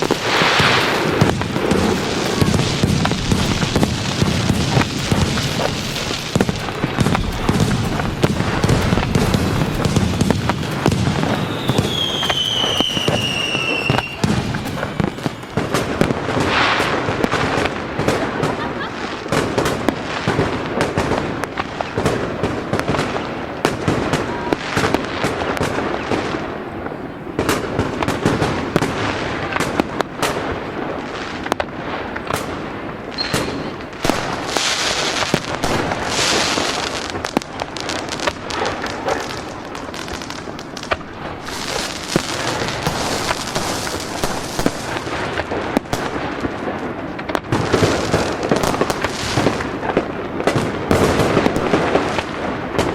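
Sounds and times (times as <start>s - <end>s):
fireworks bangs and pops: 0.0s - 52.9s.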